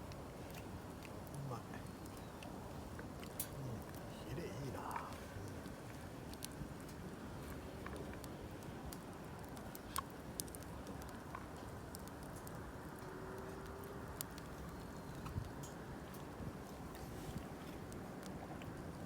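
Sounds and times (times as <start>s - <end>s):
campfire crackling: 0.0s - 19.0s
low steady background noise: 0.0s - 19.0s.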